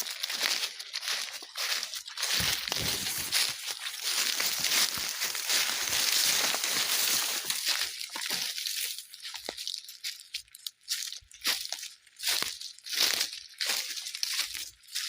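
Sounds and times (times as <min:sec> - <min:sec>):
footsteps crunching through dry leaves: 0:00.0 - 0:15.0.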